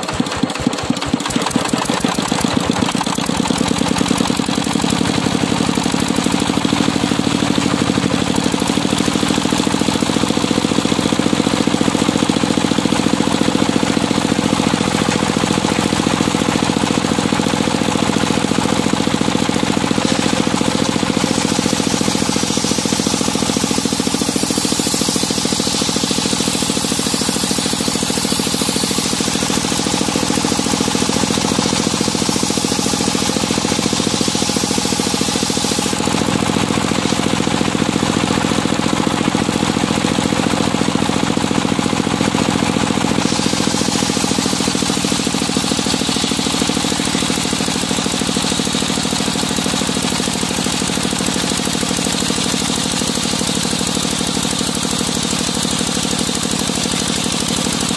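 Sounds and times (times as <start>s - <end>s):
circular saw ripping wood: 0.0s - 38.4s, 41.8s - 57.9s
stationary engine chugging: 0.0s - 57.9s.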